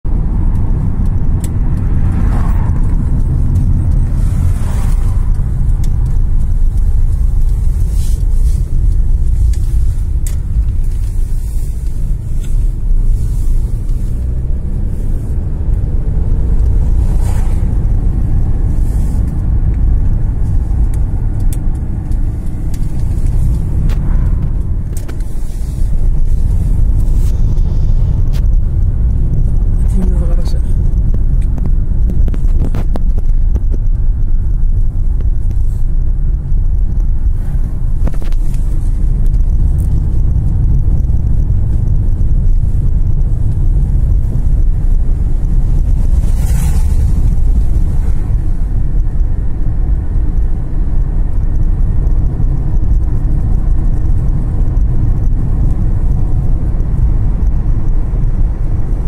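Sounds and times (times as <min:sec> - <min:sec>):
car engine and road noise: 0:00.0 - 0:59.0
vehicles passing: 0:00.0 - 0:59.0.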